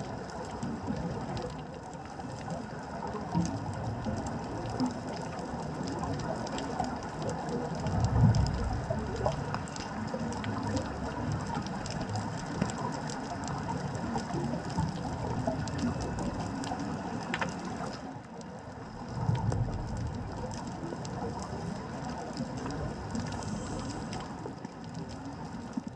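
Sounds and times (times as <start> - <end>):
faint crackling clicks: 0.0 - 25.9
low water surge: 0.0 - 25.9
underwater low rumble: 0.0 - 25.9.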